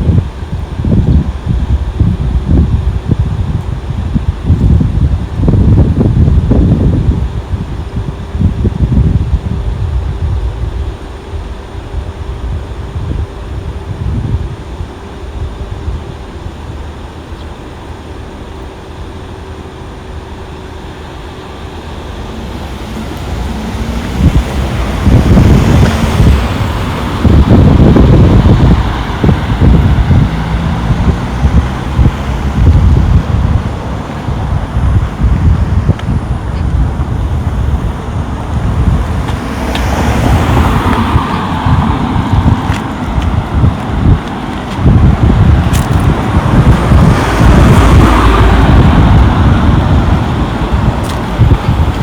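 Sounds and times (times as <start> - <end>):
motor vehicle rumble: 0.0 - 52.0
road traffic: 0.0 - 52.0
wind buffeting microphone: 0.0 - 52.0.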